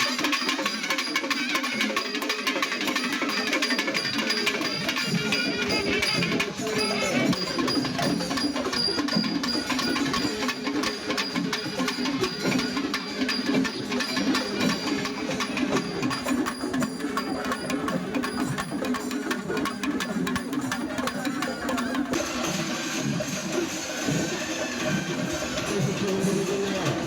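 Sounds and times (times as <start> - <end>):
fast drum strokes: 0.0 - 27.0
pitched percussion instruments: 0.0 - 27.0
ringing cymbals: 0.0 - 27.0.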